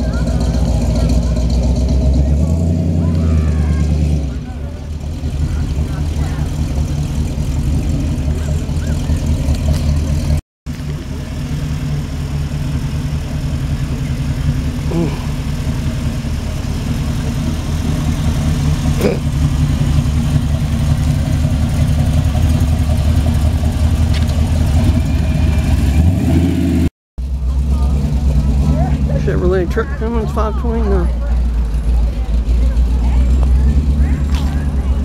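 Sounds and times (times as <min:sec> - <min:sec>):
car engine at low speed: 0:00.0 - 0:35.0.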